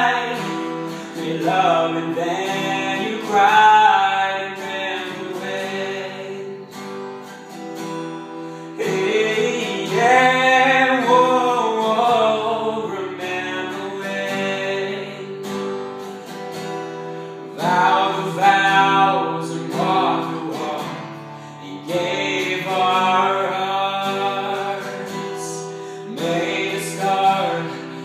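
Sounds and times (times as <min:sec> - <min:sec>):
man singing: 0:00.0 - 0:06.9, 0:08.6 - 0:15.6, 0:17.4 - 0:28.0
strummed acoustic guitar: 0:00.0 - 0:28.0.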